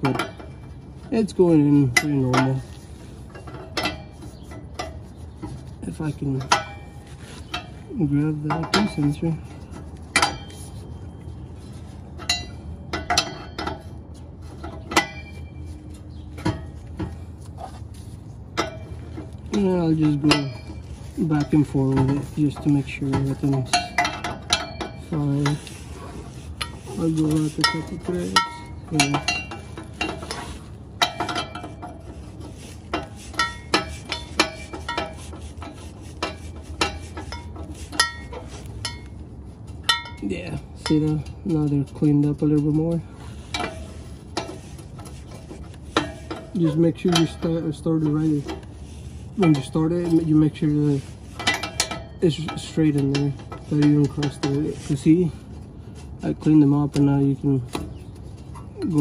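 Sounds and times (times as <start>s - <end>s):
low steady hum: 0.0s - 59.0s
metal tools clinking: 0.0s - 59.0s.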